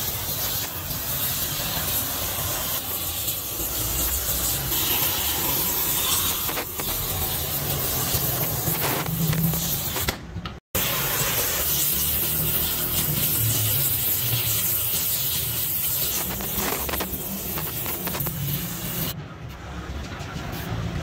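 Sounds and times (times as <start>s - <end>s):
gas torch flame hissing: 0.0s - 19.2s.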